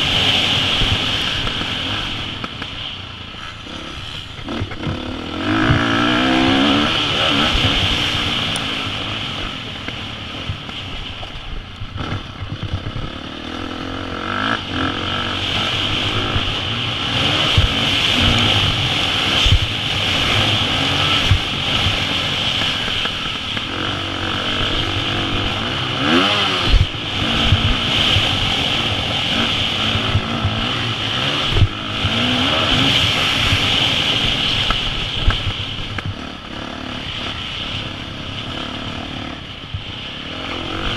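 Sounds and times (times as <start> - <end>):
dirt bike engine revving: 0.0 - 10.8, 12.0 - 40.9.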